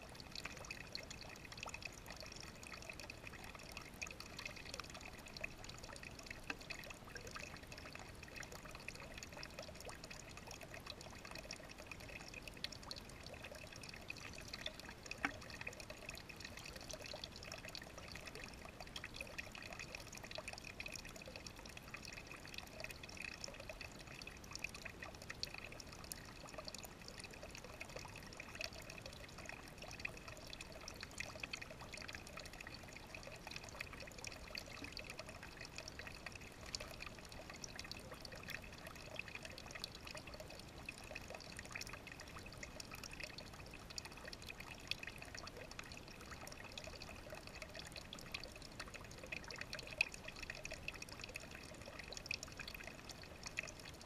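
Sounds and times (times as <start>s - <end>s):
drip-like ticks: 0.0s - 54.0s
faint trickling water: 0.0s - 54.0s.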